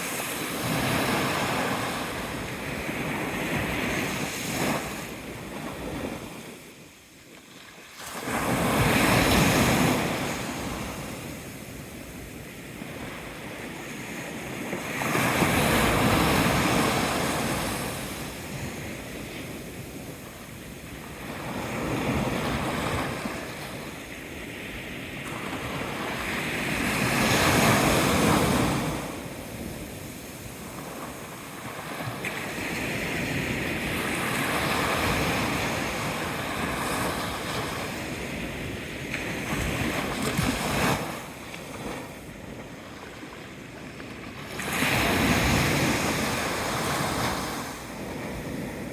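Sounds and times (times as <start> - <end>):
sea waves breaking on shore: 0.0 - 48.9.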